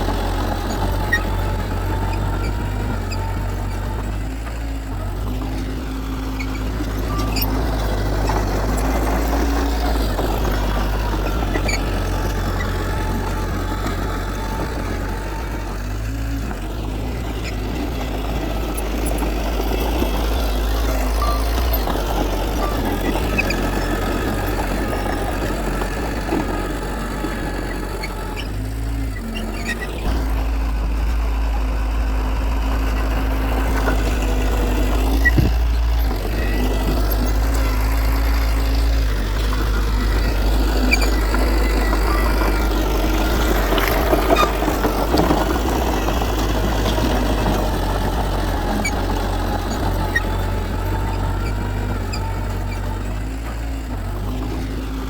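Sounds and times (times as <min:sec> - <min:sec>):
heavy machinery diesel engine droning: 0:00.0 - 0:55.0.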